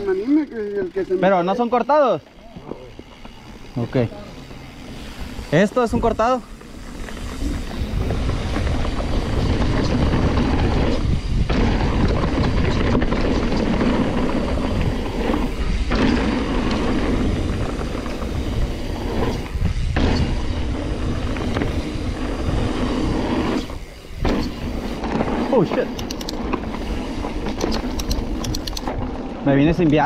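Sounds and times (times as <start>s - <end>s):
bike rattling: 0.0s - 30.0s
bike tyres rolling on dirt: 0.0s - 30.0s
wind buffeting microphone: 4.8s - 30.0s.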